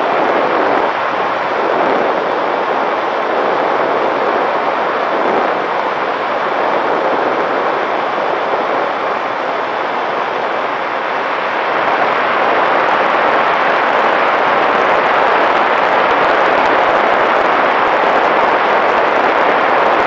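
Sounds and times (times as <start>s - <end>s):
airflow and propeller noise: 0.0s - 20.0s.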